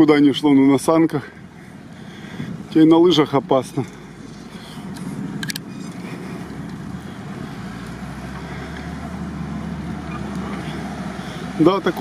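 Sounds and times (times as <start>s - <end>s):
suv engine droning: 0.0s - 12.0s.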